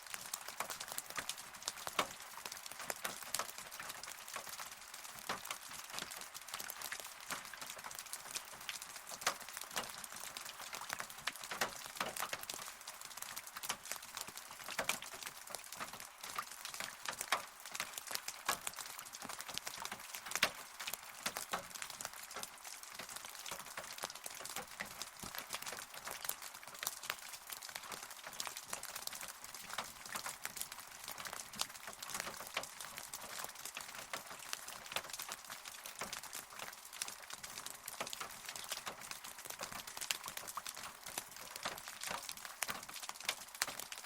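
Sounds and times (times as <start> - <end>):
steady rain patter: 0.0 - 44.0
raindrops tapping on hard surface: 0.1 - 44.0.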